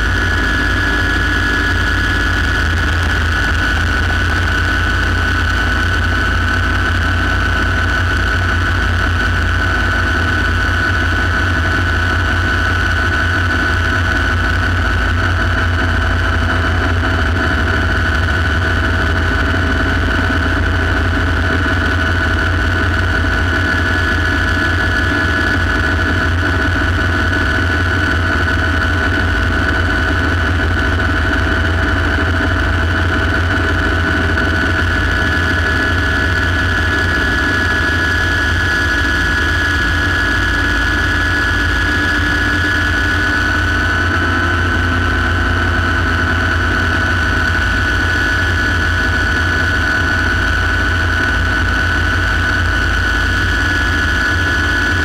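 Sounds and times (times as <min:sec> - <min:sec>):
helicopter rotor beat: 0:00.0 - 0:55.0
helicopter turbine whine: 0:00.0 - 0:55.0.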